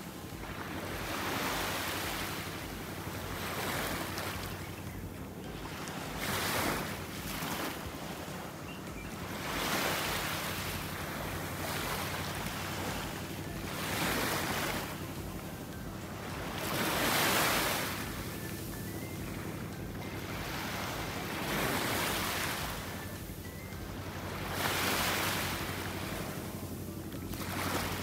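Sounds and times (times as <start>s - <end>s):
small waves washing on sand: 0.0s - 4.8s, 5.4s - 28.0s.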